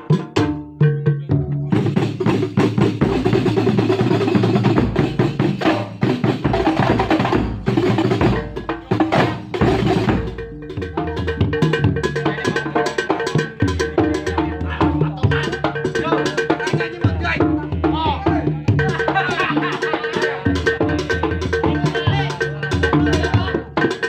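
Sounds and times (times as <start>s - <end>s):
fast hand drum percussion: 0.0s - 24.0s.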